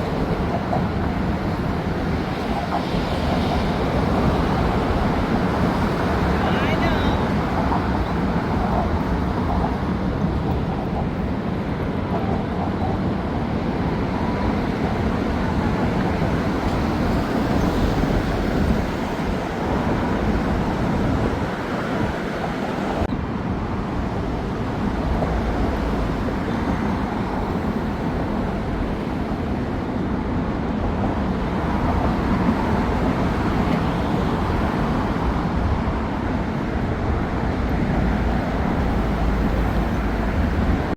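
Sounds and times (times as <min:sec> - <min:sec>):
traffic rumble: 0:00.0 - 0:40.9.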